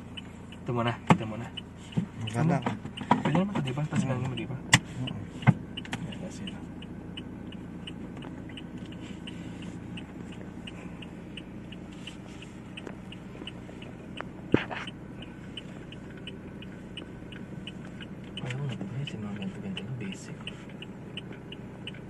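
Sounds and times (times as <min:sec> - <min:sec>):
car engine rumbling: 0:00.0 - 0:22.0
turn signal ticking: 0:00.0 - 0:22.0.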